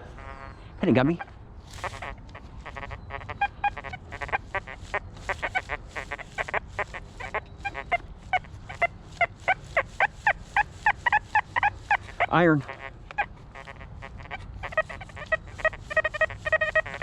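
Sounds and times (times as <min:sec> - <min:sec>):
metal detector chirping tones: 0:01.2 - 0:17.0.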